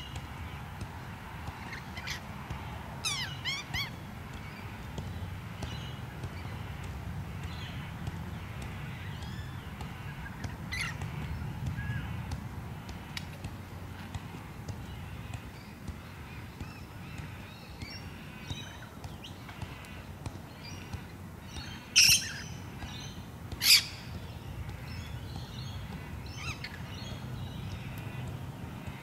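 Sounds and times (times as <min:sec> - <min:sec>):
birds chirping and singing: 0:01.4 - 0:29.0.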